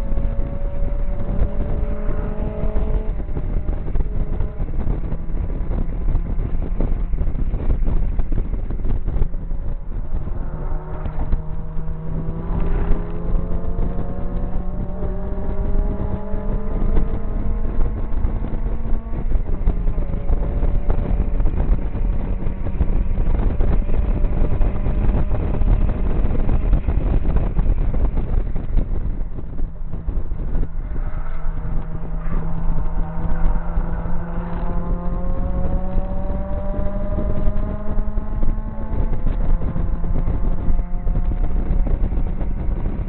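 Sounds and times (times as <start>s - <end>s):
car engine accelerating hard: 0.0s - 43.0s
wind buffeting microphone: 0.0s - 43.0s.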